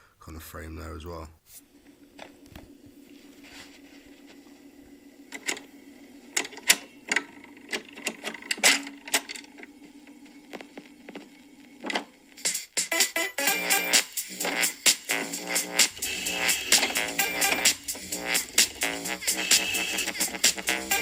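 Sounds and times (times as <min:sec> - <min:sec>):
steady low hum: 0:01.6 - 0:12.5, 0:14.3 - 0:21.0.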